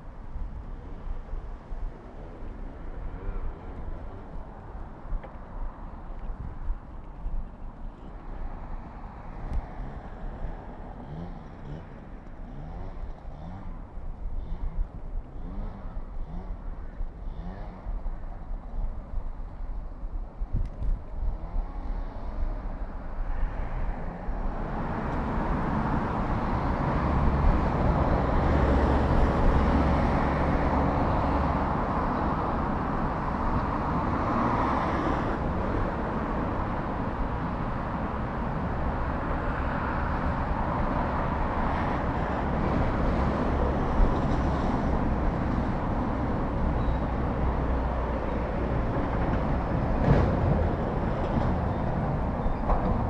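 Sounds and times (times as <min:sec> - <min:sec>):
road traffic noise: 0:00.0 - 0:53.0.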